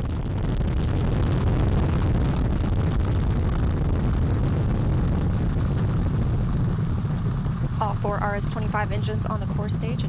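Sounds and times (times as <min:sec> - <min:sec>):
rocket engines rumbling: 0:00.0 - 0:10.0.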